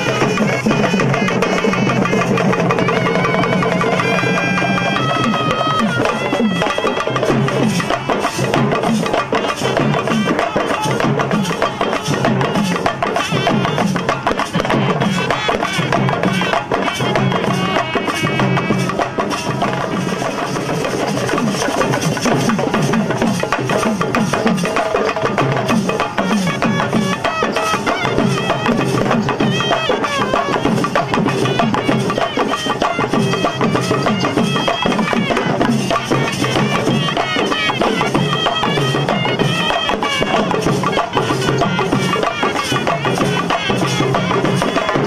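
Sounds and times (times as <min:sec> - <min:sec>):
fast hand drumming: 0:00.0 - 0:45.0
reed wind instrument melody: 0:00.0 - 0:45.0.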